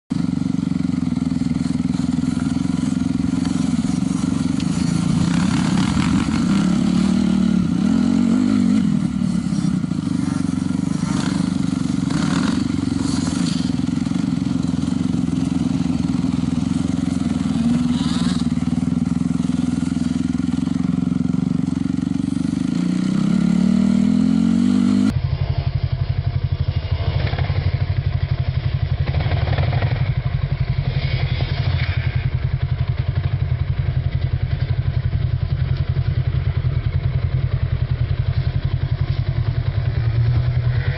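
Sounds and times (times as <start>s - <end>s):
dirt bike engine revving: 0.1s - 33.7s.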